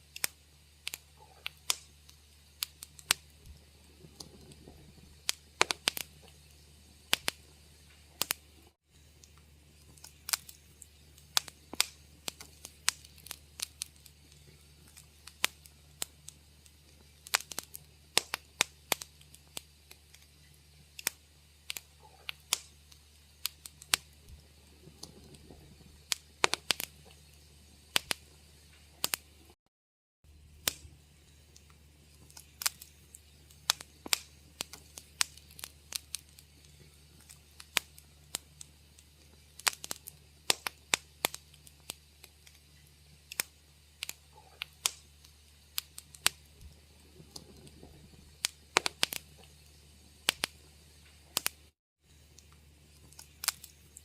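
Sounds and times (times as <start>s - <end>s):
steady low hum: 0.0s - 29.6s, 30.3s - 54.0s
wood fire crackling: 0.0s - 29.6s, 30.3s - 54.0s.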